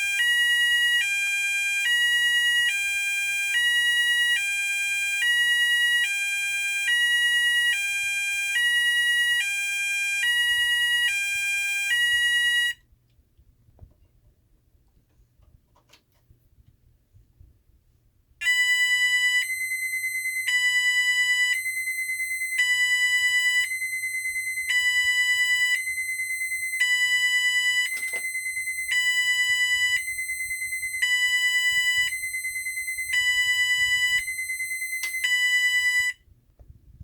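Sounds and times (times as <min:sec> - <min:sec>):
two-tone alternating alarm: 0:00.0 - 0:12.8, 0:18.4 - 0:36.2.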